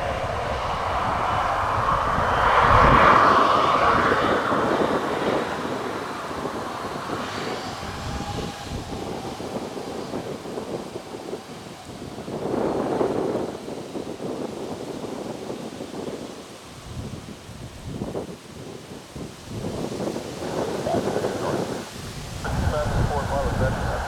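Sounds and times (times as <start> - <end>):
aircraft engines passing by: 0.0 - 24.0.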